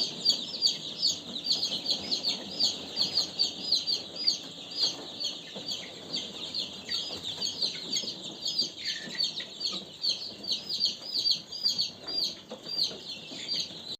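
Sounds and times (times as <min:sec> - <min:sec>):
chicks peeping: 0:00.0 - 0:13.9.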